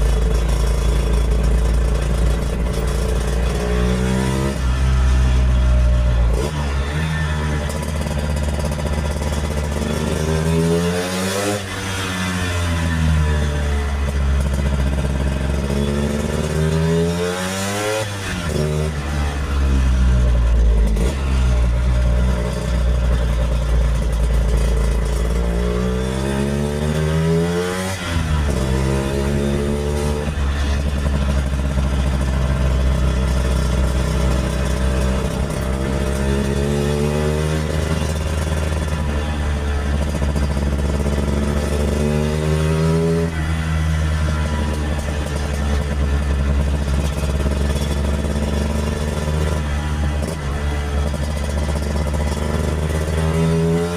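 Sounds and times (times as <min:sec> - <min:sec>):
scooter engine accelerating: 0:00.0 - 0:53.9.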